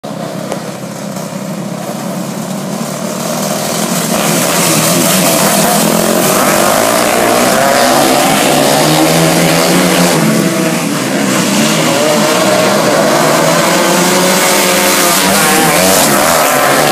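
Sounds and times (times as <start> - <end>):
kart engines passing by: 0.0 - 16.9.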